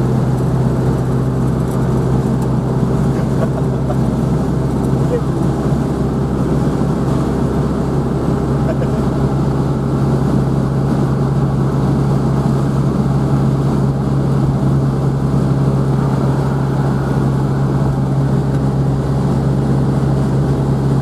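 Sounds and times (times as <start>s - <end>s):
car engine low drone: 0.0s - 21.0s.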